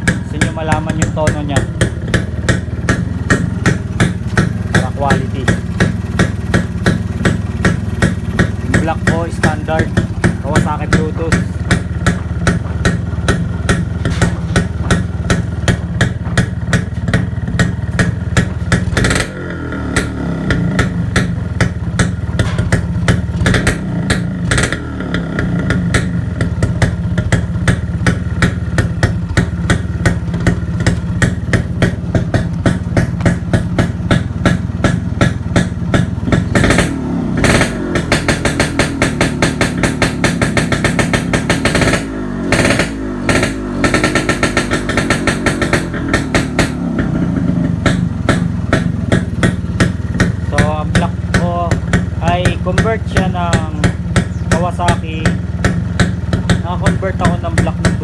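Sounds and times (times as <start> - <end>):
two-stroke motorcycle engine popping: 0.0 - 58.0.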